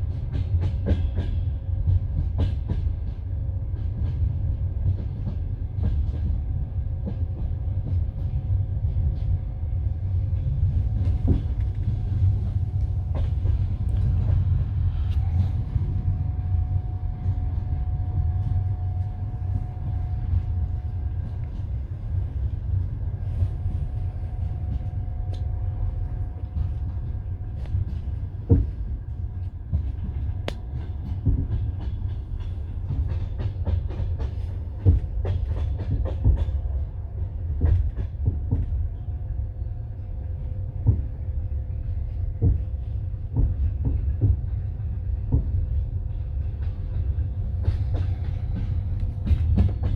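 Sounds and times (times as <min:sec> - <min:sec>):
train wheels rumbling: 0:00.0 - 0:49.9.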